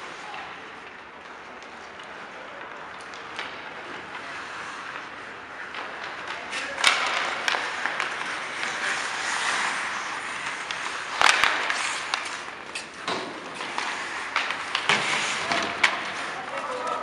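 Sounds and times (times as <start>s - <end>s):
hockey sticks and puck clacking: 0.0s - 17.0s
skates scraping ice: 0.0s - 17.0s.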